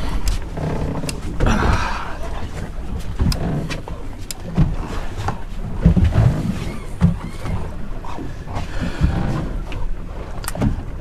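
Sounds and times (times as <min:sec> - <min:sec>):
boat engine and hull rumble: 0:00.0 - 0:11.0.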